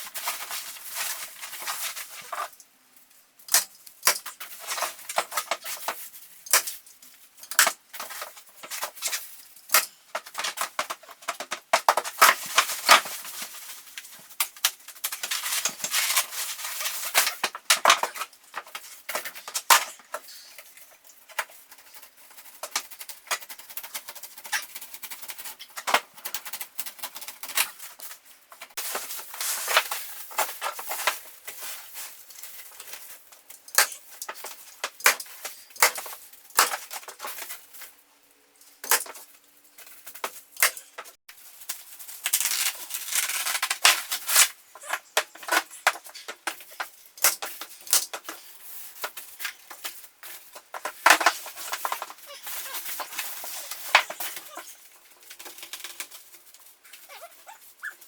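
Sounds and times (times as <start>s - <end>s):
rustling and crinkling: 0.0s - 58.0s.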